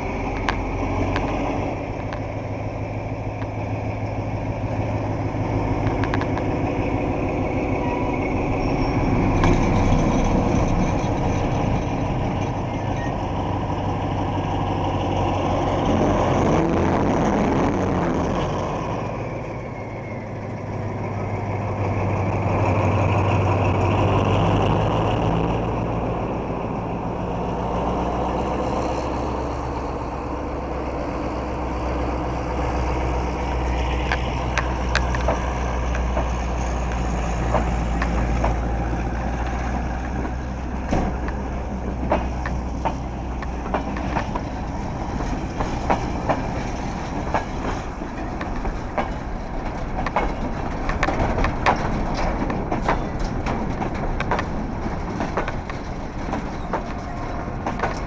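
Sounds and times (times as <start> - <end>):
diesel locomotive engine humming: 0.0 - 58.0
rumbling noise: 0.0 - 58.0.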